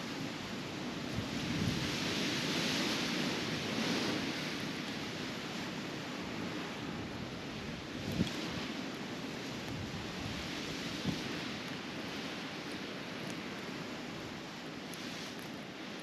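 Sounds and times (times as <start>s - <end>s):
strong blizzard wind: 0.0s - 16.0s.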